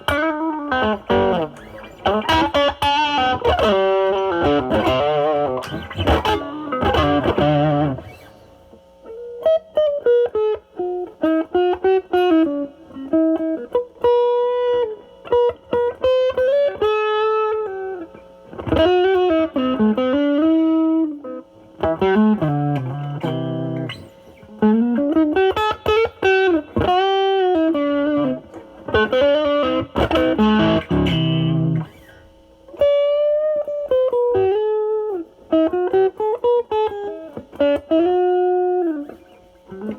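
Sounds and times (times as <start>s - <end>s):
distorted electric guitar chords: 0.0s - 39.9s
electric guitar lead lines: 0.0s - 39.9s.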